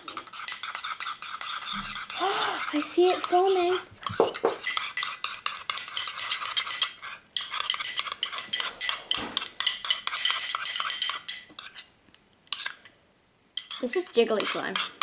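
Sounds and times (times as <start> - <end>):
utensil scraping around bowl: 0.0 - 11.9, 12.5 - 12.9, 13.6 - 15.0.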